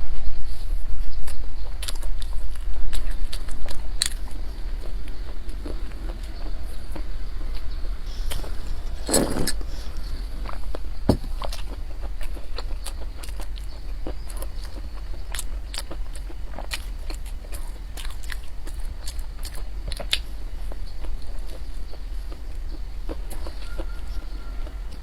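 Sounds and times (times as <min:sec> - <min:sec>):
steady low hum: 0:00.0 - 0:25.0
chewing crunchy bread: 0:01.1 - 0:25.0.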